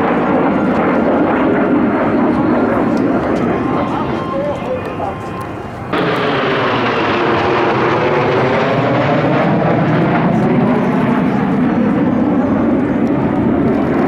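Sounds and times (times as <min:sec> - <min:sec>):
jet roar passing low: 0:00.0 - 0:14.0.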